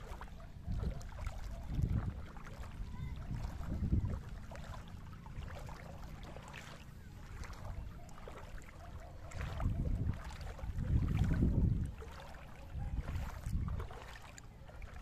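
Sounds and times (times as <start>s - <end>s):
wind buffeting microphone: 0.0s - 6.5s, 9.2s - 15.0s
seawater splashing and lapping: 0.0s - 15.0s.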